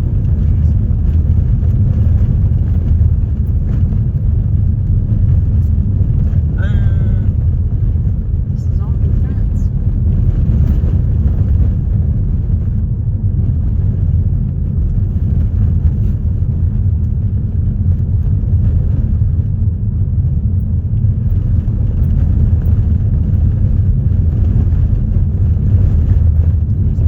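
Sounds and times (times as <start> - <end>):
car driving rumble: 0.0 - 27.0.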